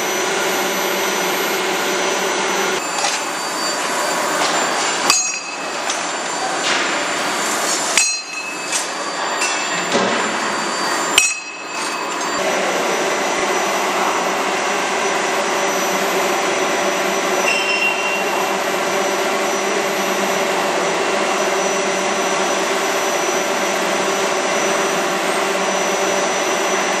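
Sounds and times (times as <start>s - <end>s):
forge machinery roaring: 0.0s - 27.0s
thin high whine: 0.0s - 27.0s.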